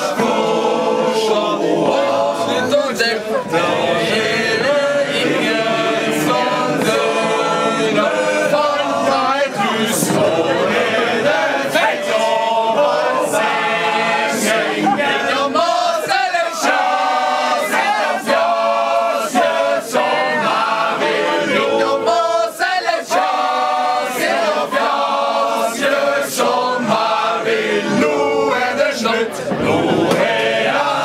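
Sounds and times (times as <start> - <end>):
men singing in chorus: 0.0 - 31.0.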